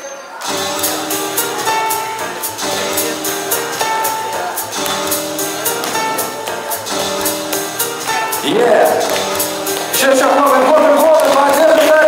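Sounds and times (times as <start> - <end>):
music with tapping beat: 0.4 - 12.0.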